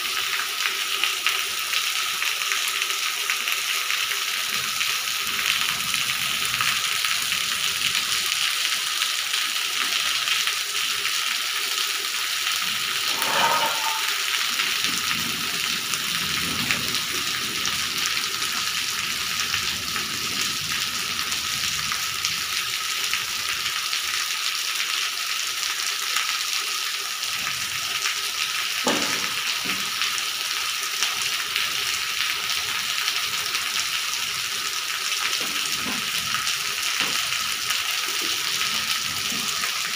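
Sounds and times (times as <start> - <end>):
rain on tiles and leaves: 0.0 - 39.9
runoff pouring off wall: 0.0 - 39.9.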